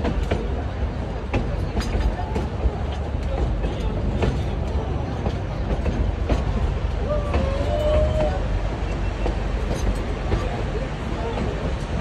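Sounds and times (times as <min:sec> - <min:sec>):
train rumbling along: 0:00.0 - 0:12.0
wheels clacking on rails: 0:00.0 - 0:12.0.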